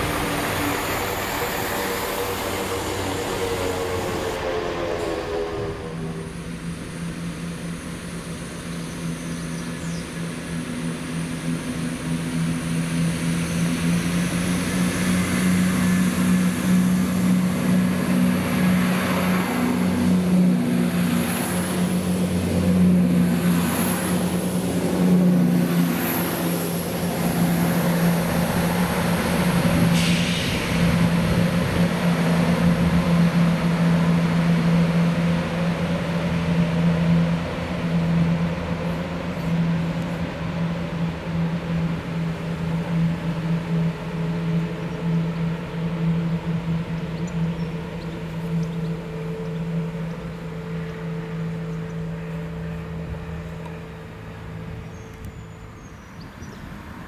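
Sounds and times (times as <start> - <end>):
train diesel engines droning: 0.0 - 57.0.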